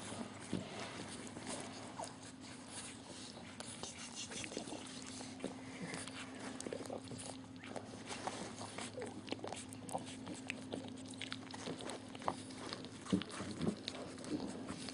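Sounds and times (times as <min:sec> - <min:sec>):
faint steady hum: 0:00.0 - 0:14.9
puppies snuffling and suckling: 0:00.0 - 0:14.9.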